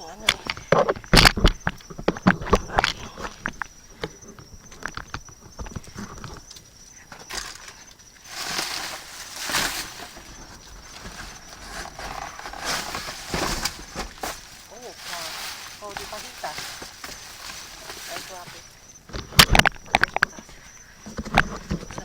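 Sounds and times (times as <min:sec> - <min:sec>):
trash rustling and crinkling: 0:00.4 - 0:22.0.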